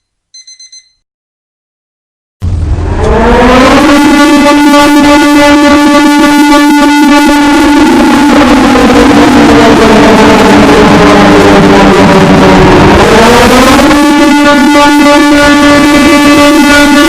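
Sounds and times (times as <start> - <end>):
emergency alarm tone: 0.4 - 1.0, 3.0 - 17.0.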